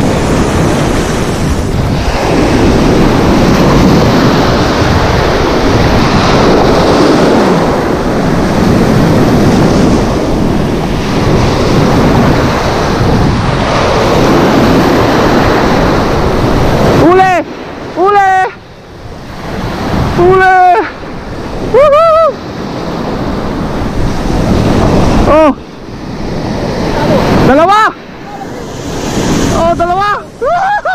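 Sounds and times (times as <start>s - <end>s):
sea surf breaking: 0.0s - 30.9s.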